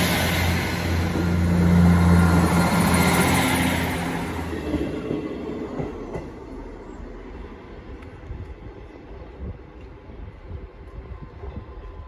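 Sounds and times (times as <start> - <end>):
diesel train engines droning: 0.0 - 12.0
wheel and rail noise: 0.0 - 12.0.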